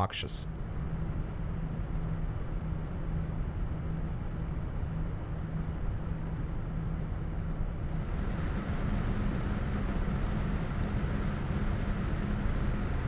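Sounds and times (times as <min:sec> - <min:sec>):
radiator fans rushing air: 0:00.0 - 0:13.0.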